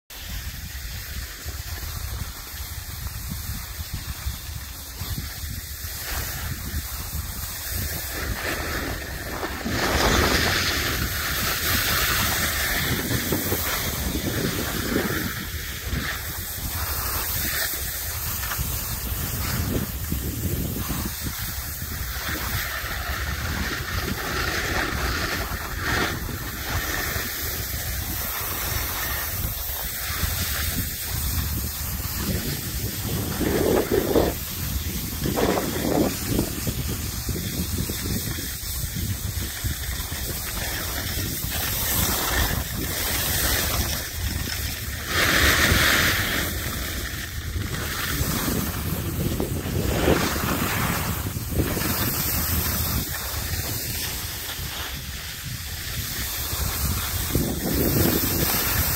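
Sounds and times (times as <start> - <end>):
wind buffeting microphone: 0.1 - 58.9.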